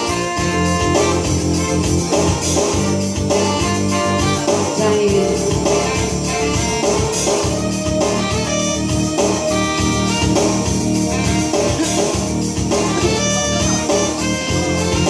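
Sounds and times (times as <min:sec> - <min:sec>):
live band playing a song: 0:00.0 - 0:15.0.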